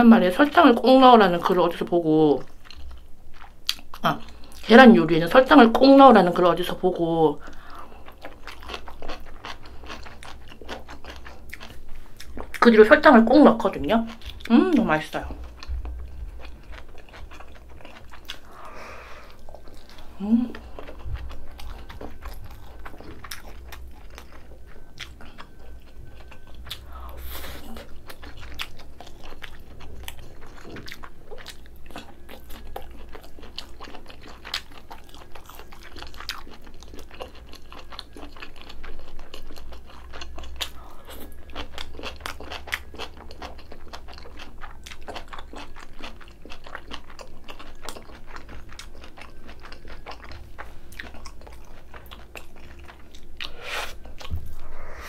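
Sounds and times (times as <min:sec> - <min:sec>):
crunchy chewing with mouth clicks: 0:02.4 - 0:04.8, 0:05.4 - 0:55.0.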